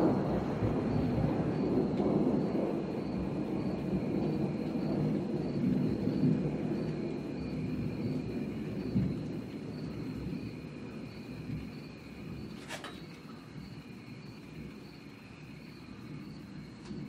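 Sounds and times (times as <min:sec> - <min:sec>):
distant thunder rumbling: 0:00.0 - 0:17.0.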